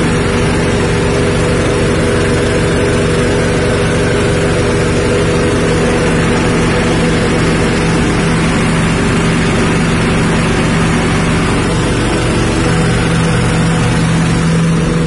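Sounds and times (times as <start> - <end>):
grinder mill rushing noise: 0.0 - 15.0
petrol engine drone: 0.0 - 15.0.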